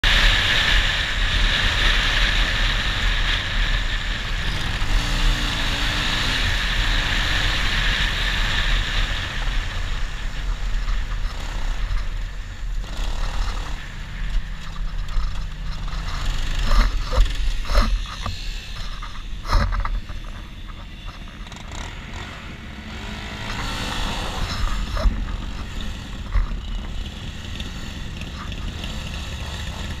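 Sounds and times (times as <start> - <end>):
motorcycle engine running: 0.0 - 30.0
wind rushing over camera: 0.0 - 30.0.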